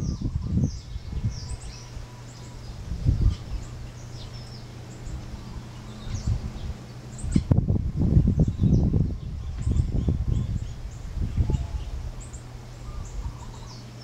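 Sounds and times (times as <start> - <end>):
birds chirping: 0.0 - 14.0
low rumbling bursts: 0.0 - 14.0.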